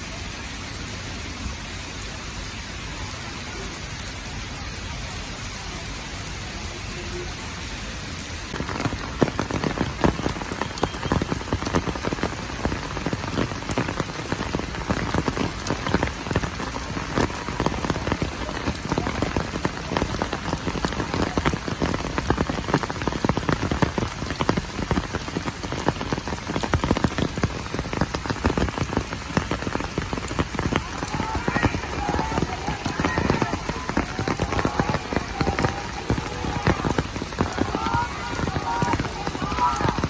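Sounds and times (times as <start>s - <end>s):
heavy rain on hard surfaces: 0.0s - 40.0s.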